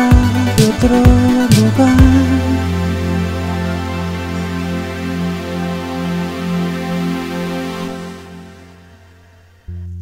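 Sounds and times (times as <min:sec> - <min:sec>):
synthesizer sustained chord: 0:00.0 - 0:09.8
low drone: 0:00.0 - 0:09.9
pulsing low note: 0:00.0 - 0:10.0.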